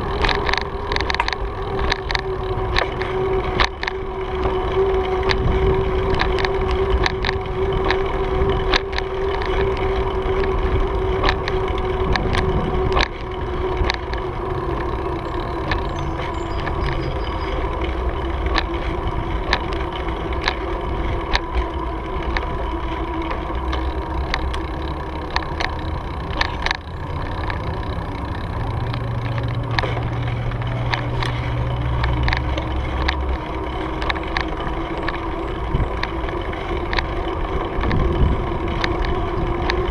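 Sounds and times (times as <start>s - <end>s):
bicycle tyres rolling hum: 0.0s - 39.9s
bike clicks and rattles: 0.0s - 39.9s
wind rumble on microphone: 0.0s - 39.9s.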